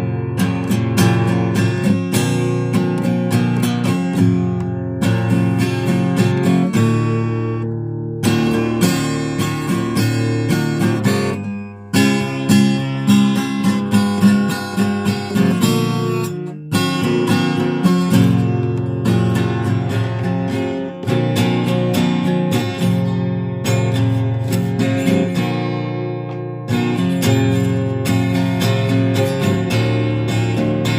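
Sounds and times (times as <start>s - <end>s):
acoustic guitar strummed and picked: 0.0s - 30.9s.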